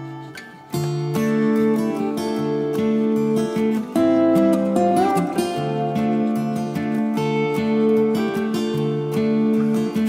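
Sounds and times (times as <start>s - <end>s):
acoustic guitar picking: 0.0s - 10.0s.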